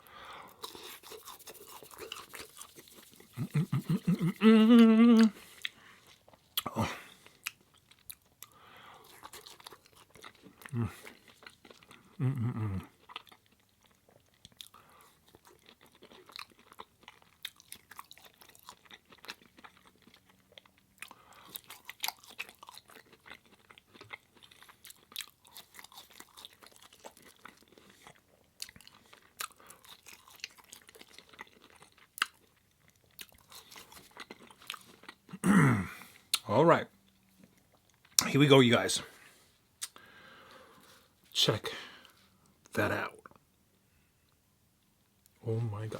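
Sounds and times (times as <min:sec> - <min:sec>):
person chewing food: 0:00.4 - 0:38.2, 0:39.7 - 0:41.4.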